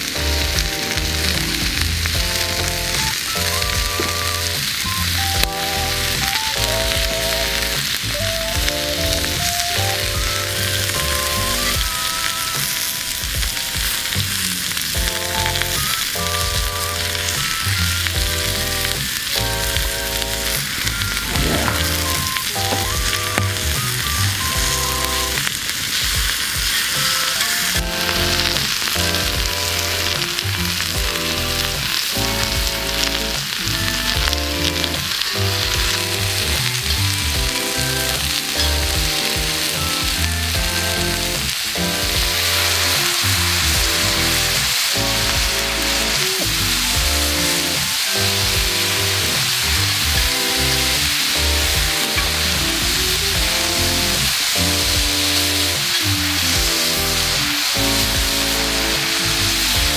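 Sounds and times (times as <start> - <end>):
background music with bass: 0.0 - 59.9
meat sizzling in a pan: 0.0 - 59.9.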